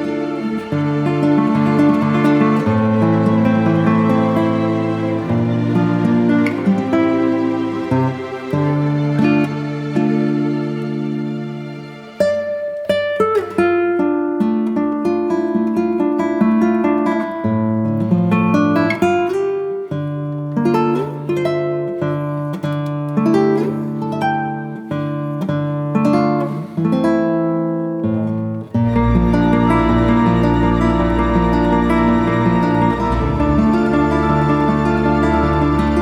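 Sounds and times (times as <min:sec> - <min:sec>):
picked acoustic guitar music: 0:00.0 - 0:36.0.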